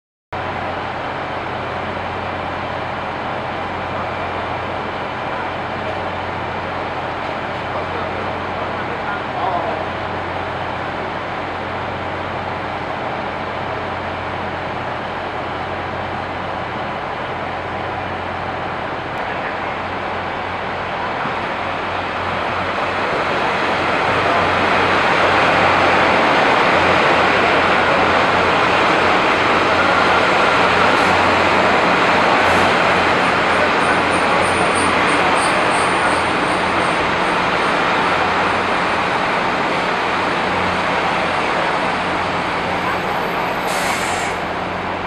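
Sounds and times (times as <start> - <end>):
train rumbling: 0.4 - 45.0.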